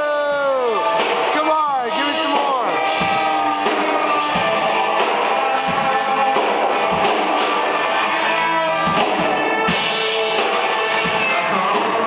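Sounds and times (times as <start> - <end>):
drum kit with cymbal hits: 0.0 - 12.0
electric guitar: 0.0 - 12.0.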